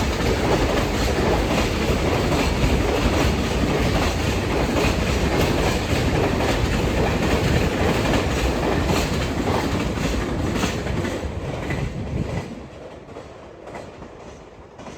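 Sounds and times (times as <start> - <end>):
freight train wheels clattering: 0.0 - 14.9.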